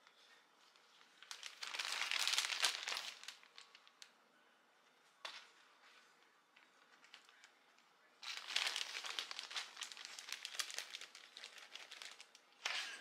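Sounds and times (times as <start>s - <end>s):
plastic freezer bag crinkling: 0.8s - 4.1s, 5.3s - 7.6s, 8.2s - 13.0s.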